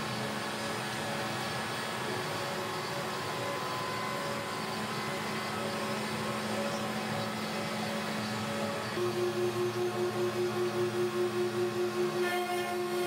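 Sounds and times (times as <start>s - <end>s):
cnc router carving wood: 0.0s - 13.0s.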